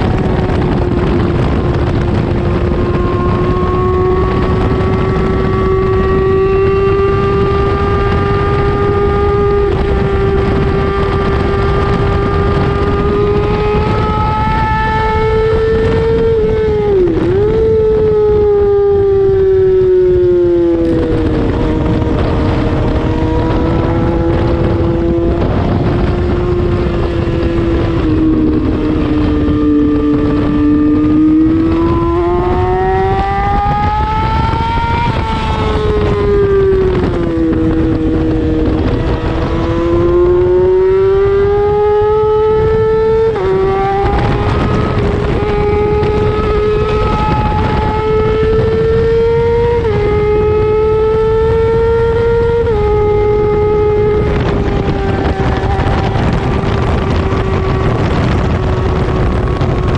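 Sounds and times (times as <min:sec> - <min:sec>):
racing motorcycle engine: 0:00.0 - 0:59.9
wind rushing over microphone: 0:00.0 - 0:59.9.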